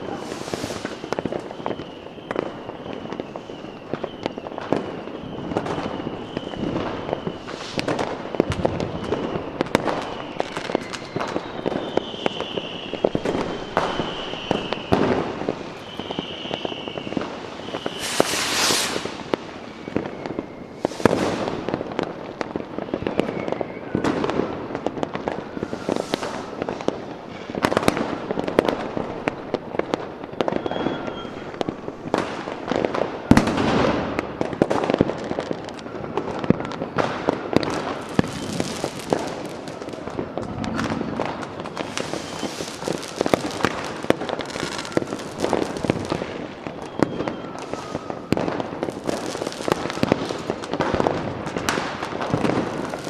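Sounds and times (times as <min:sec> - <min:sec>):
fireworks hissing bursts: 0:00.0 - 0:22.2, 0:24.6 - 0:29.9, 0:37.7 - 0:53.0
fireworks bangs and crackling: 0:00.0 - 0:53.0
fireworks high whistles: 0:00.0 - 0:53.0.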